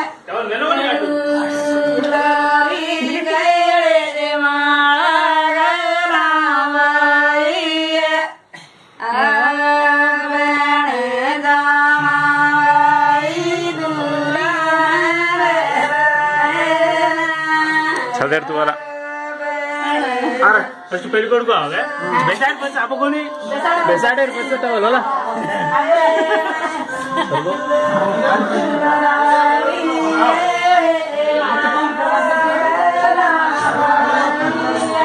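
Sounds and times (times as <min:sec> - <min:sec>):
person singing devotional melody: 0:00.0 - 0:08.4, 0:09.0 - 0:35.0.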